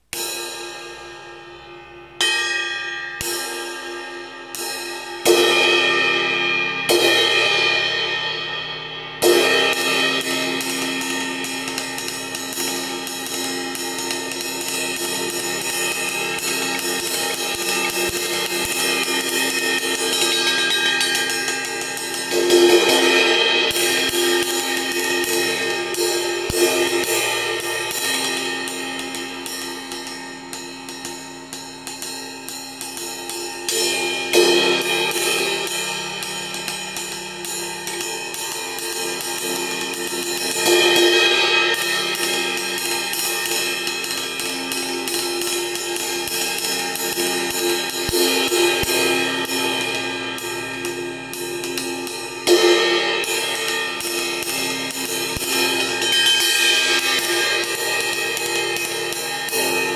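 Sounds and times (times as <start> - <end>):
crash cymbal struck with stick: 0.0 - 59.9.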